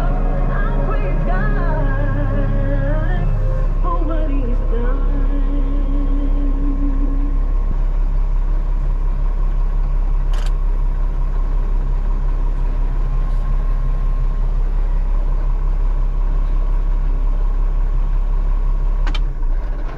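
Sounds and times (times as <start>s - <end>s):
faint steady whine: 0.0s - 19.3s
farm machine engine running: 0.0s - 19.9s.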